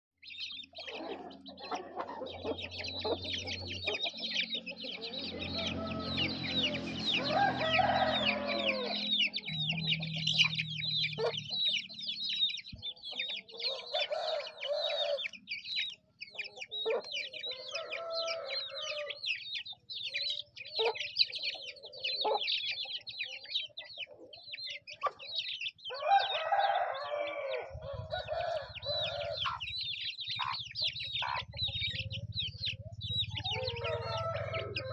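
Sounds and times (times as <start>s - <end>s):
chickens calling: 0.2s - 34.9s
chicks peeping rapidly: 0.2s - 34.9s.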